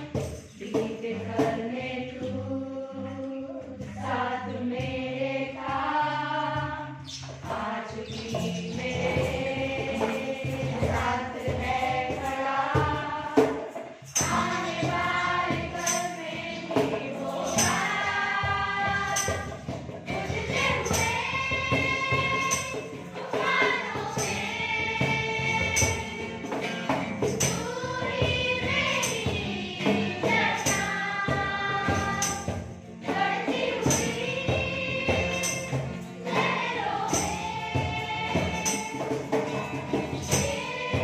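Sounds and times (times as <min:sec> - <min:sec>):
steady percussion beat: 0:00.0 - 0:02.3, 0:03.8 - 0:41.0
group singing worship song: 0:00.0 - 0:41.0.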